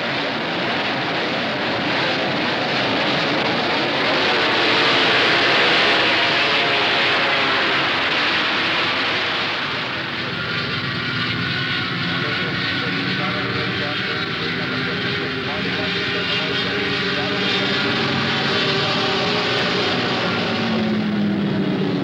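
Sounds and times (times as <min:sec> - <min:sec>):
racing motorcycle engines revving: 0:00.0 - 0:22.0.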